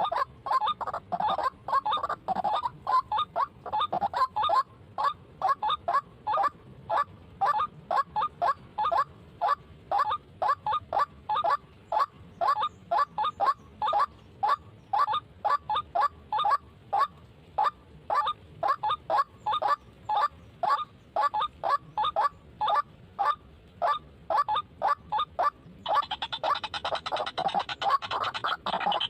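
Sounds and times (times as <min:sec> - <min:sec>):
waterhen honking calls: 0:00.0 - 0:29.0.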